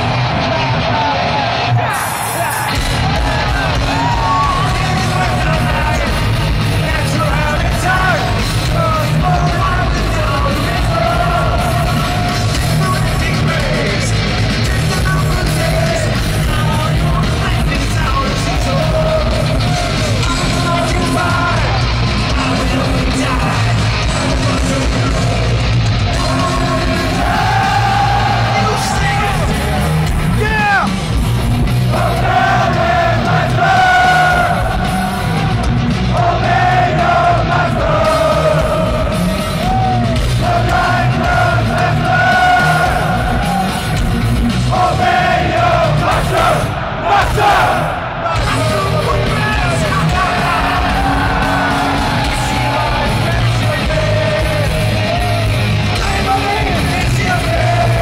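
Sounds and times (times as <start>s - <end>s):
crowd yelling and singing along: 0.0s - 58.0s
heavy metal band playing: 0.0s - 58.0s.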